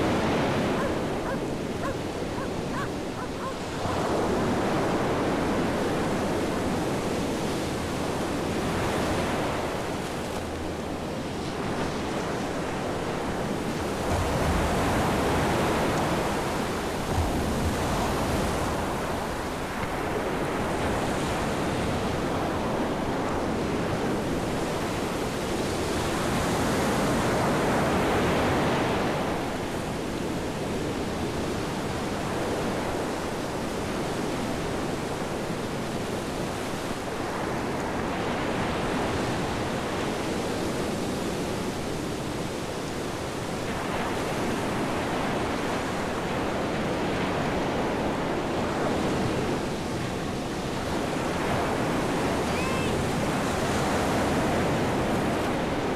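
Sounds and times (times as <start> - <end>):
ocean surf breaking on beach: 0.0 - 55.9.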